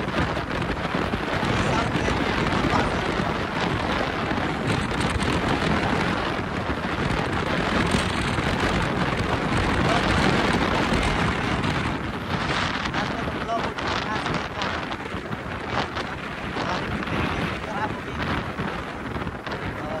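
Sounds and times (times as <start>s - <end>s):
low road rumble: 0.0s - 20.0s
wind buffeting microphone: 0.0s - 20.0s.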